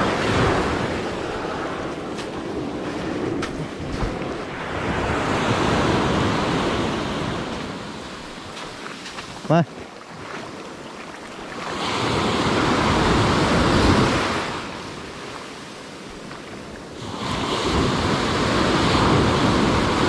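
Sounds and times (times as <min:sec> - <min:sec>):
sea waves washing: 0:00.0 - 0:20.0.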